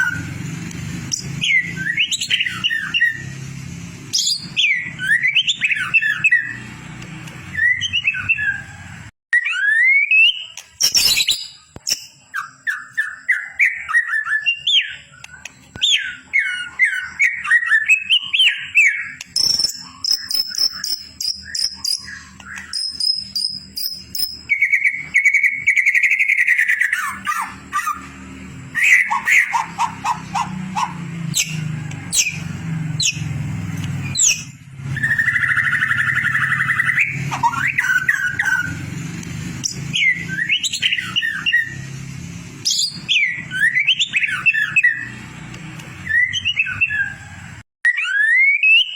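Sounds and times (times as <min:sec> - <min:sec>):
songbird whistling and trilling: 0:00.0 - 0:00.4, 0:01.0 - 0:03.4, 0:04.1 - 0:42.0, 0:42.6 - 0:48.9.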